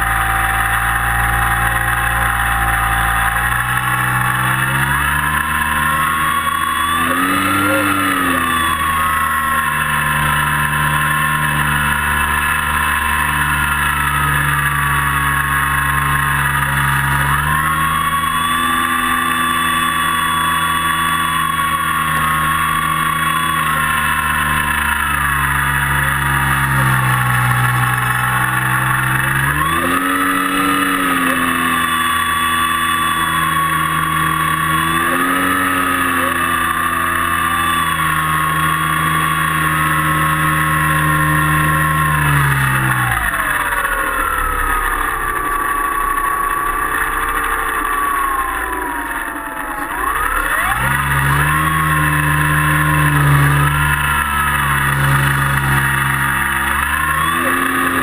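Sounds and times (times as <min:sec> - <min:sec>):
model airplane motor whining: 0:00.0 - 0:58.0.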